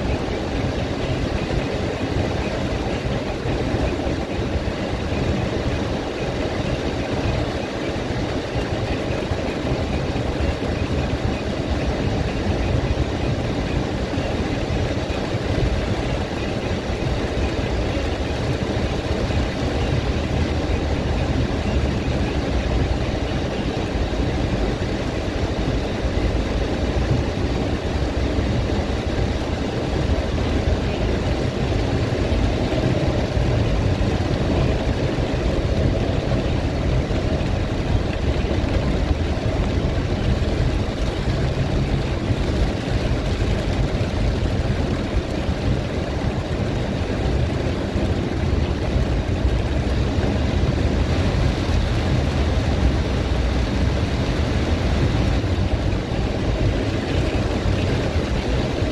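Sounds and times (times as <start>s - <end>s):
engine and tyre rumble on wet road: 0.0s - 58.9s
rain hissing on car: 0.2s - 58.9s.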